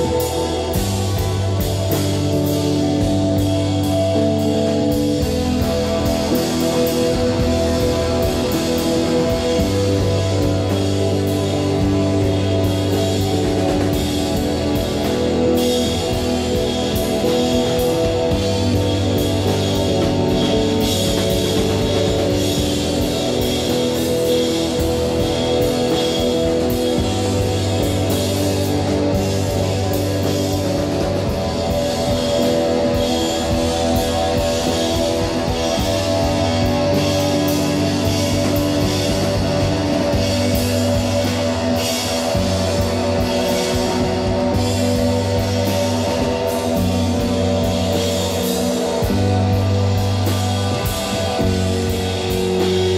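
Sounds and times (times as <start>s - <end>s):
bass guitar: 0.0s - 52.9s
drum kit with cymbal hits: 0.0s - 52.9s
electric guitar: 0.0s - 52.9s.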